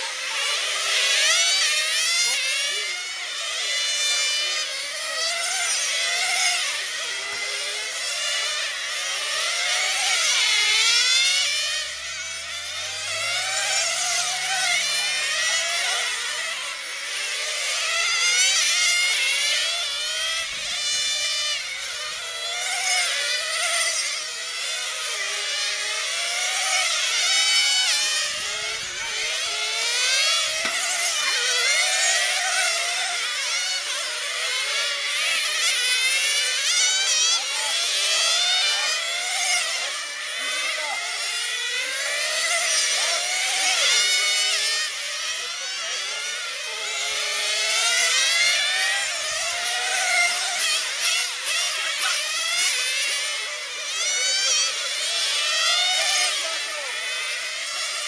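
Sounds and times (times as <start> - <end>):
model car engines revving: 0.0 - 58.0.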